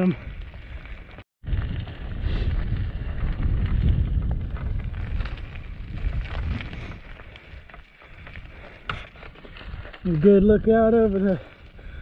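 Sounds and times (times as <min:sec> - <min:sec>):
gravel crackling under bike tyres: 0:00.0 - 0:12.0
wind buffeting microphone: 0:00.0 - 0:12.0.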